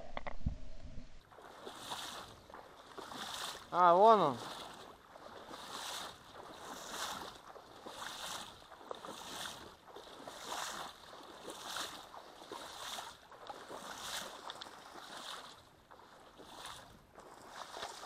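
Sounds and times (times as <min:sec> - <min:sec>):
water sloshing: 0:00.0 - 0:18.0.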